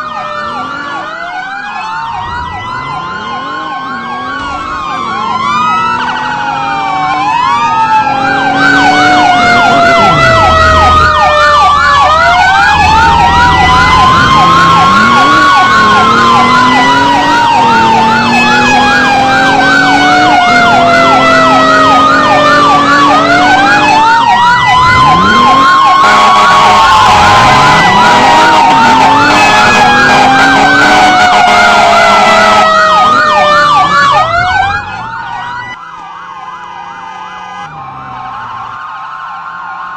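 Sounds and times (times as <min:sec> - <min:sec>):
fast yelp siren: 0:00.0 - 0:39.9
fire truck siren wail: 0:00.0 - 0:39.9.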